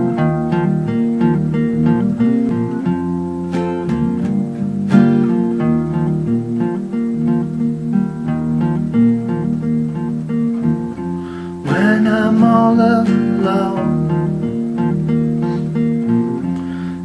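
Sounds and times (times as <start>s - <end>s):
acoustic guitars playing: 0.0s - 17.0s.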